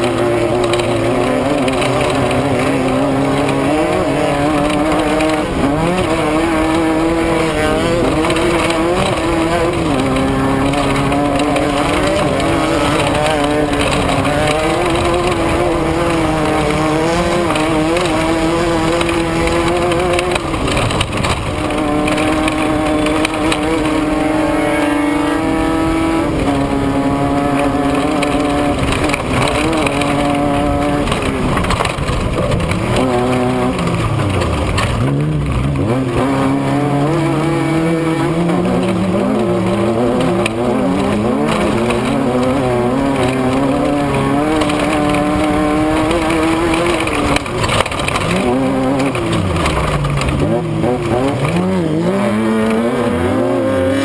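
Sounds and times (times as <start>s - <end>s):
race vehicle engine revving: 0.0s - 54.0s.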